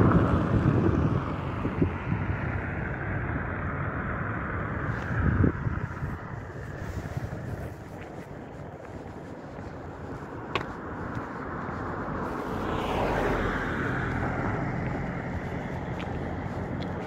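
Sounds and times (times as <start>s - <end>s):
steady outdoor hiss: 0.0s - 17.0s
vehicle passing: 0.0s - 17.0s.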